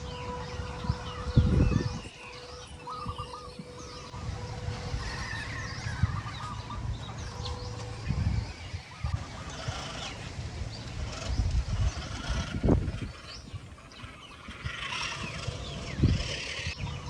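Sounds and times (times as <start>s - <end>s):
birds chirping and honking: 0.0s - 17.0s
low uneven rumble: 0.0s - 17.0s.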